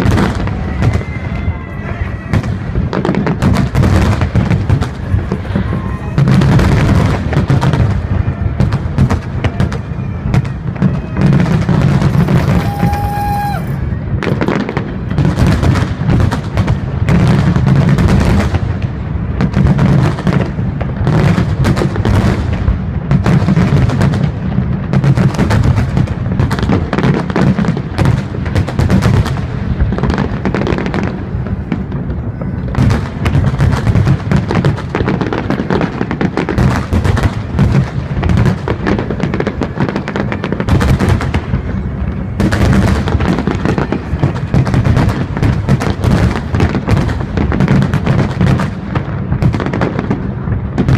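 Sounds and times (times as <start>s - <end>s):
fireworks crackle: 0.0s - 50.9s.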